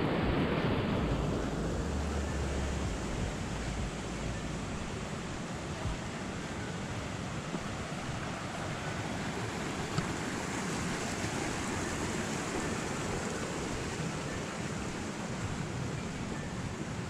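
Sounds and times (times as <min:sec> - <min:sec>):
mountain stream rushing over cascades: 0:00.0 - 0:17.0.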